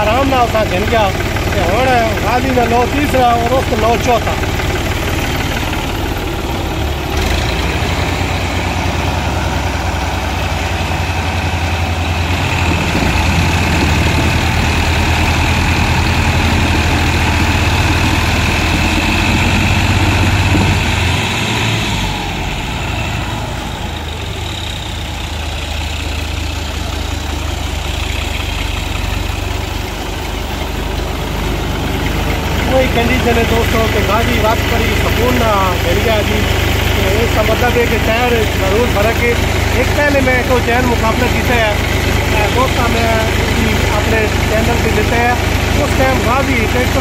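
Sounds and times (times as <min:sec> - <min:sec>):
diesel tractor engines under load: 0:00.0 - 0:47.0.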